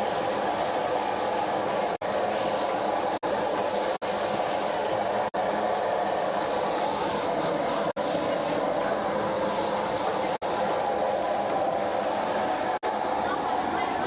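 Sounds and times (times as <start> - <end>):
wok frying hiss: 0.0 - 14.0.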